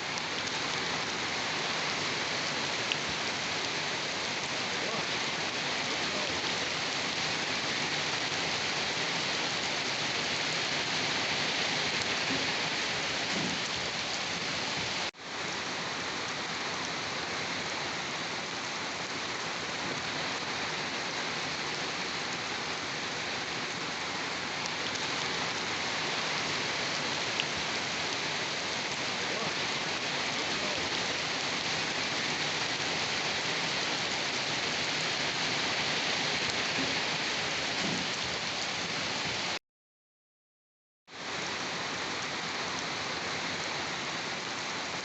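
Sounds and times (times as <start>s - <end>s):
heavy rain falling: 0.0s - 39.6s, 41.1s - 45.0s.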